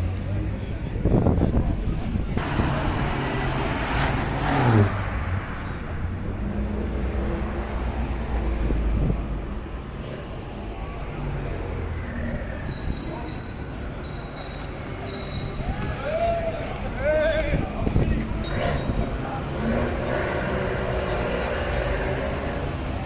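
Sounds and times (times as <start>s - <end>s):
cars driving past: 0.0s - 23.0s.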